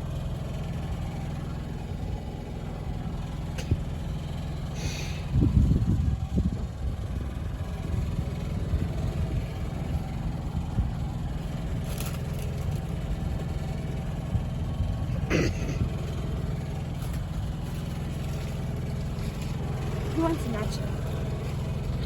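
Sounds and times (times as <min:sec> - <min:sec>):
engine humming steadily: 0:00.0 - 0:22.0.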